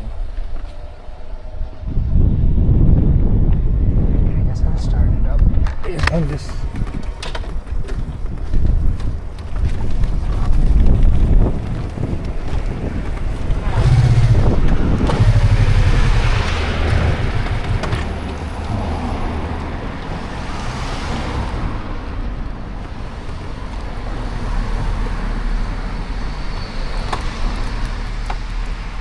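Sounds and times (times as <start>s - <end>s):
traffic rumble: 0.0s - 29.0s
vehicles passing close by: 0.0s - 29.0s.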